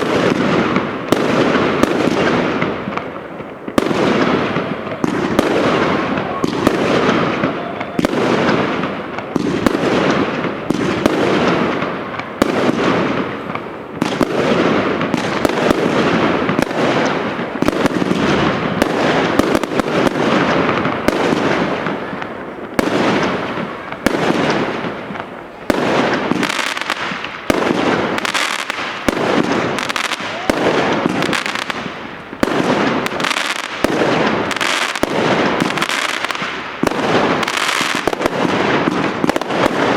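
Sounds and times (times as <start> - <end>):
fireworks firing and cracking: 0.0 - 39.9.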